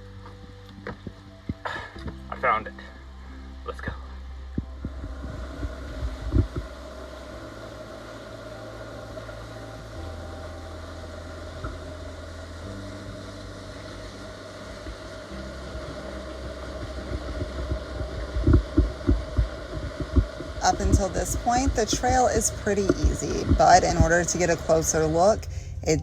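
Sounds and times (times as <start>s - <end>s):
background music with low notes: 0.0s - 26.0s.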